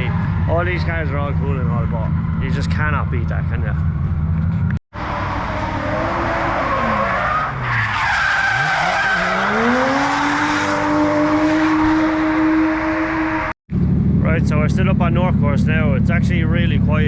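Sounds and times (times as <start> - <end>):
car engines revving high: 0.0 - 17.0.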